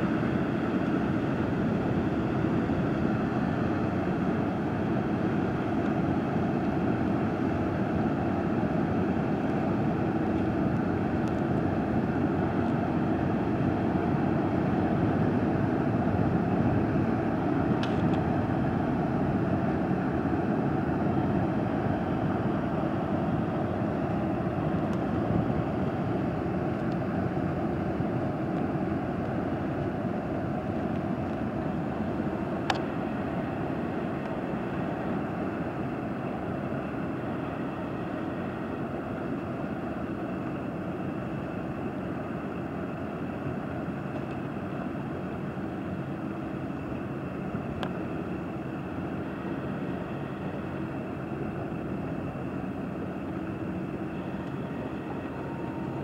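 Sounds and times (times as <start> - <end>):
barge engine drone: 0.0 - 56.0.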